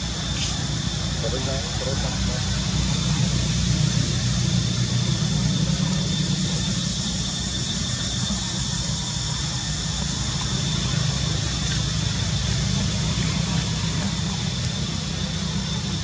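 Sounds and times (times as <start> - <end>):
high hiss: 0.0 - 16.0.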